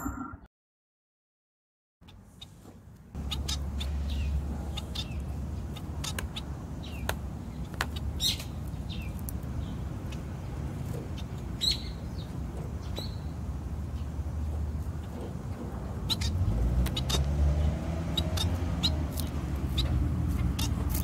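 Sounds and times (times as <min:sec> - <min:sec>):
finches chirping: 0:03.2 - 0:15.2, 0:15.9 - 0:21.0.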